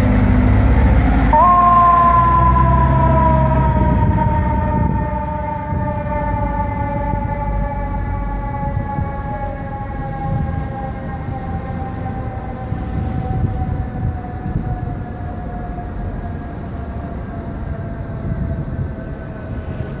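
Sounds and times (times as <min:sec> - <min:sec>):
siren winding down: 0:00.0 - 0:18.8
low traffic rumble: 0:00.0 - 0:20.0.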